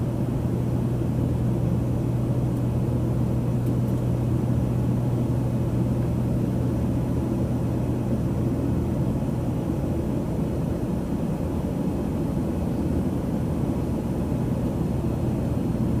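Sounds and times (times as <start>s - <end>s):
airplane cabin engine rumble: 0.0s - 16.0s
constant low hum: 0.0s - 16.0s.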